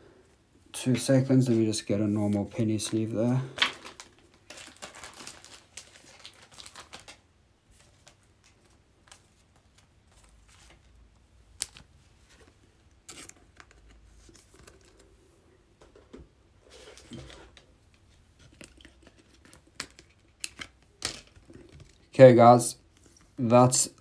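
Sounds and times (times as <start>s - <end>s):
plastic sleeves crinkling: 0.8s - 15.1s, 16.8s - 22.2s.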